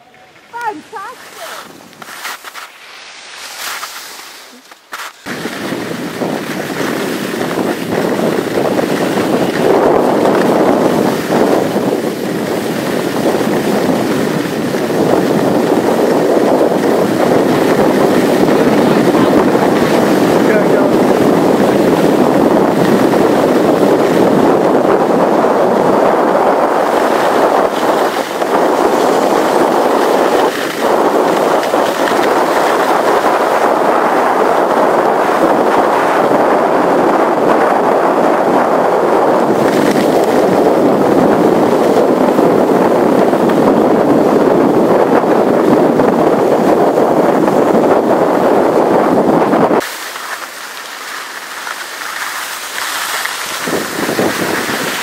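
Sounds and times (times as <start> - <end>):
skis sliding over snow: 0.0 - 55.0
wind rushing on microphone: 0.0 - 55.0.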